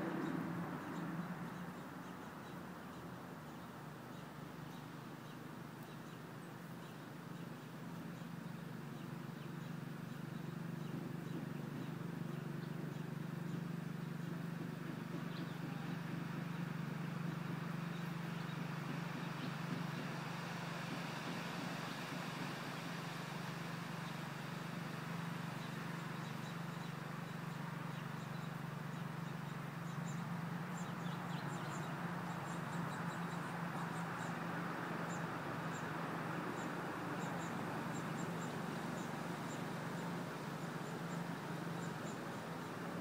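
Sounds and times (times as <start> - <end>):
low engine hum: 0.0 - 43.0.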